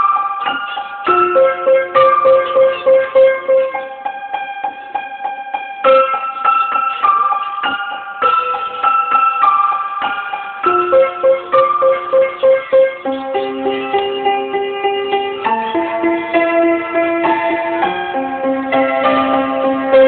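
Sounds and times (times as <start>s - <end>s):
piano-like keyboard music: 0.0s - 20.0s.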